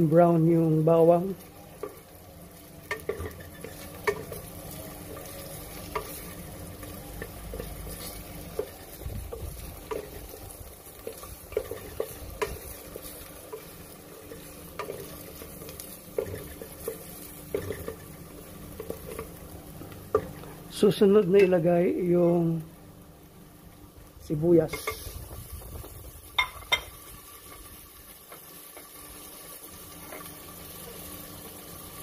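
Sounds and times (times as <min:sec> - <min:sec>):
garlic sizzling in hot oil: 0:00.0 - 0:32.0.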